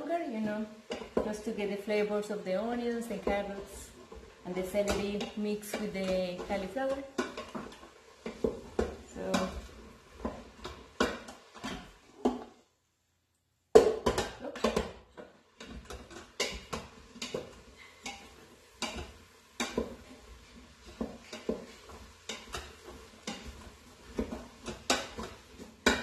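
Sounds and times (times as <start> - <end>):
wooden spoon scraping metal pot: 0.1 - 12.6, 14.0 - 26.0.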